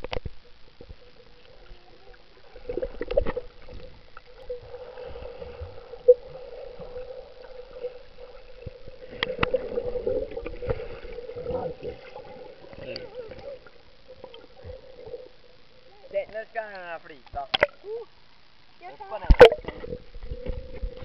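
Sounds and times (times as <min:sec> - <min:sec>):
underwater sloshing and bubbling: 0:00.0 - 0:18.2, 0:19.3 - 0:21.0
steady hum: 0:00.0 - 0:21.0.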